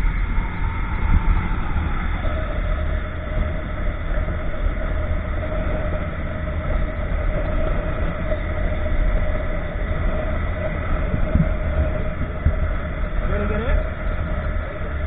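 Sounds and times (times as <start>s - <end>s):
motorcycle engine drone: 0.0s - 15.0s
wind noise on microphone: 0.0s - 15.0s.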